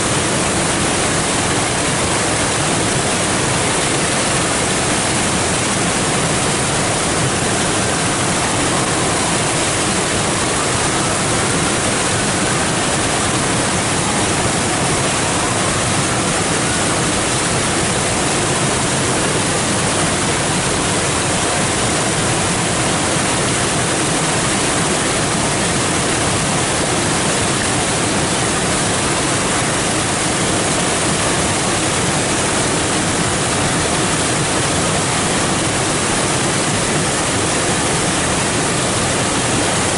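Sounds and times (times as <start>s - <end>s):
creek water rushing over rapids: 0.0s - 39.9s.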